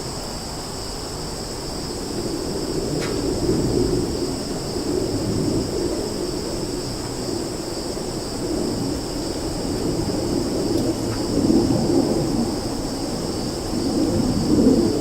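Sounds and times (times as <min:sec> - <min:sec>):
insect chorus buzzing: 0:00.0 - 0:15.0
wind through trees: 0:00.0 - 0:15.0.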